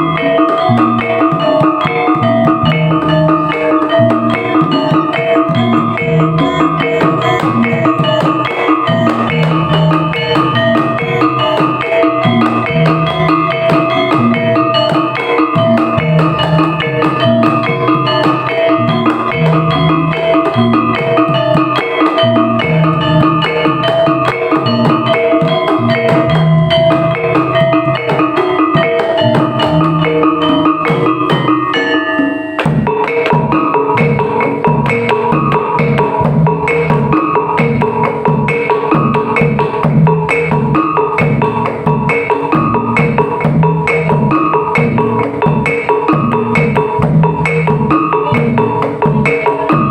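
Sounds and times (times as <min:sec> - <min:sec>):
drums and metal percussion music: 0:00.0 - 0:49.9.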